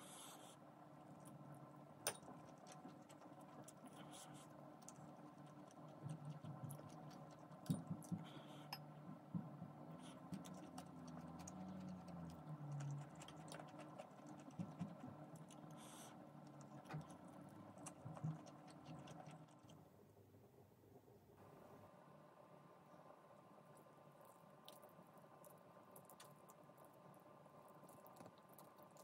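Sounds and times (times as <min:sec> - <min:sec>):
soft chewing: 0:00.0 - 0:19.8, 0:23.7 - 0:29.0
faint hum: 0:00.0 - 0:29.0.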